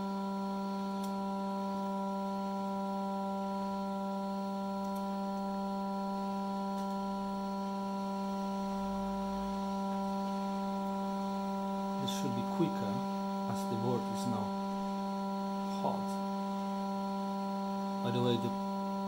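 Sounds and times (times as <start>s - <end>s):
hot air blower humming: 0.0s - 19.0s.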